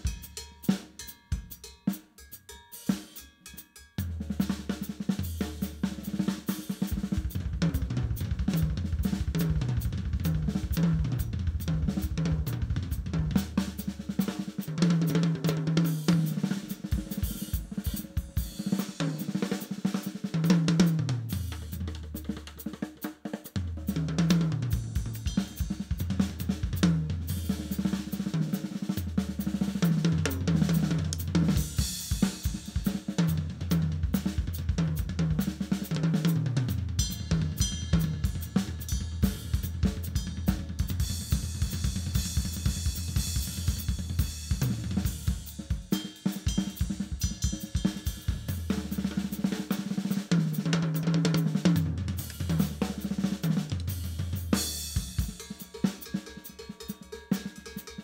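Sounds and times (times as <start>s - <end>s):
drum kit playing a groove: 0.0s - 58.0s.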